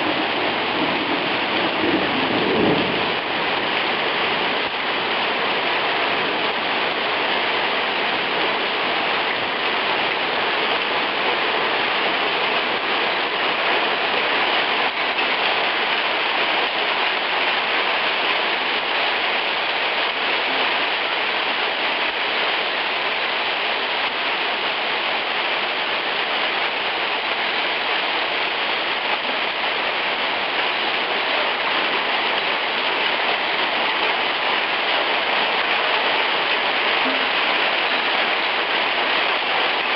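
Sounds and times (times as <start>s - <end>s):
hail pelting on stone paving: 0.0s - 39.9s.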